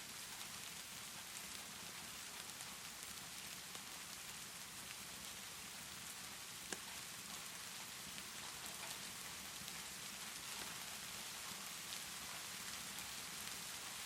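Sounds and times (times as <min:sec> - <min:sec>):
steady rainfall: 0:00.0 - 0:14.0
fireplace crackling: 0:00.2 - 0:14.0.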